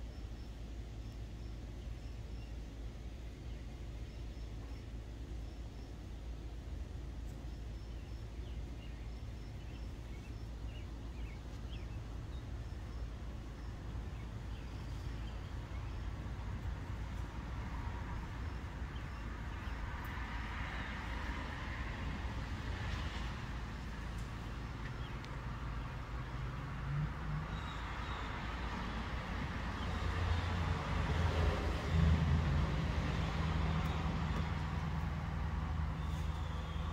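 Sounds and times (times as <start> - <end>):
small birds chirping: 0.0 - 20.2, 22.9 - 26.4, 27.0 - 30.6, 33.6 - 36.9
steady low rumble: 0.0 - 36.9.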